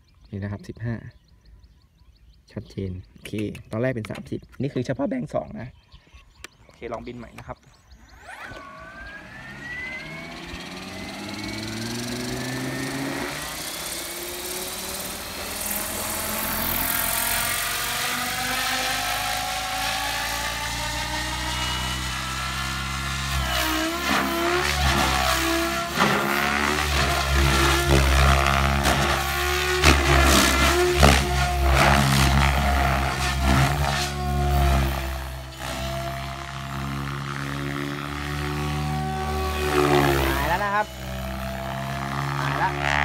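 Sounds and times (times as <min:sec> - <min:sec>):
rc helicopter motor and rotor whine: 0:07.0 - 0:43.0.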